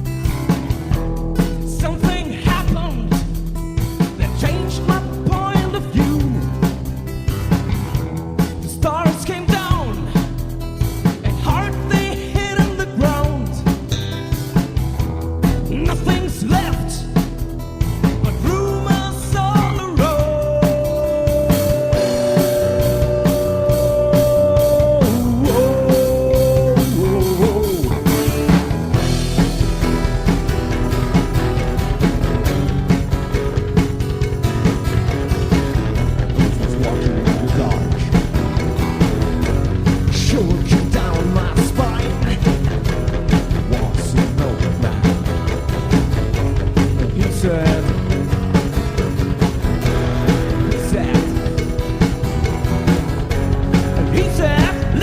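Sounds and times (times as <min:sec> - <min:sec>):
bass: 0:00.0 - 0:55.0
drums: 0:00.0 - 0:55.0
electric guitar: 0:00.0 - 0:55.0.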